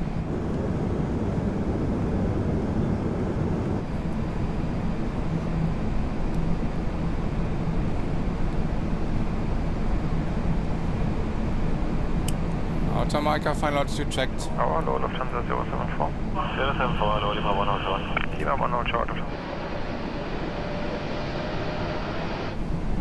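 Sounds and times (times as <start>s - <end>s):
aircraft engine noise: 0.0s - 23.0s
faint steady hum: 0.0s - 23.0s.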